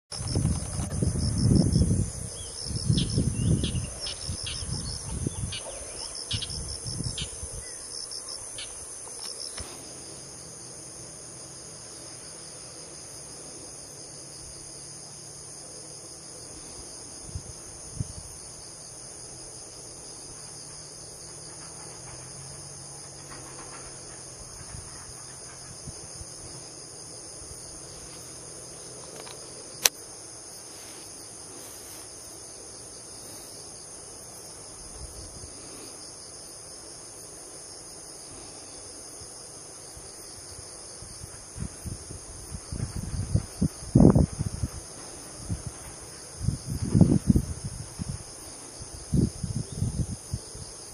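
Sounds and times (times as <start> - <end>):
crickets trilling: 0.1 - 50.9.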